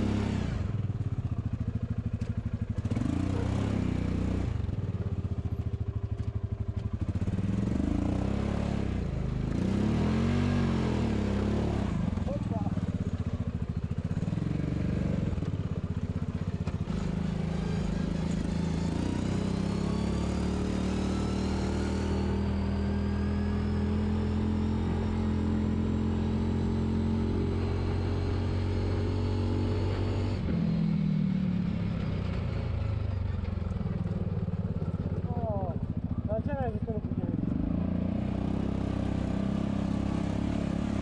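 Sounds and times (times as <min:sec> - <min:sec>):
utility vehicle engine running: 0:00.0 - 0:41.0.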